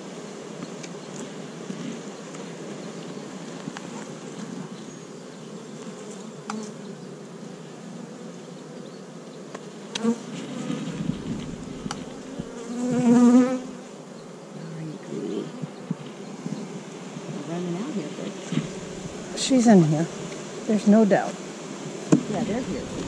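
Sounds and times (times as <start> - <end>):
bee buzz with wavering pitch: 0.0 - 23.0
bees humming: 0.0 - 23.0.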